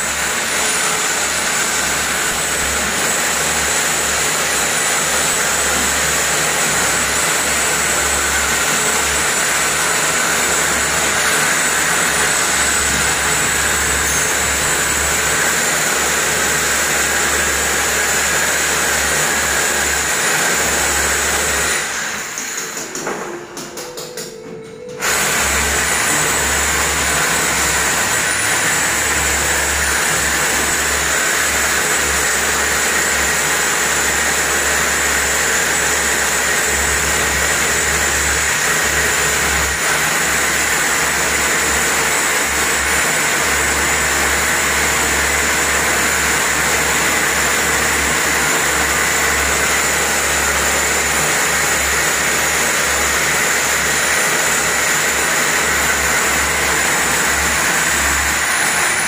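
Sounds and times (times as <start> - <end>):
electric drill boring masonry: 0.0 - 24.1, 24.9 - 59.0.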